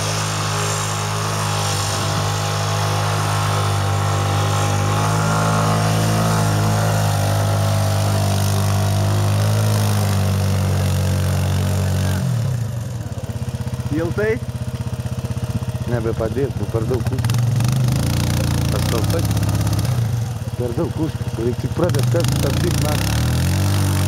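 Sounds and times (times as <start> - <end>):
quad bike engine revving: 0.0 - 24.0
wheel spinning in mud: 0.0 - 24.0.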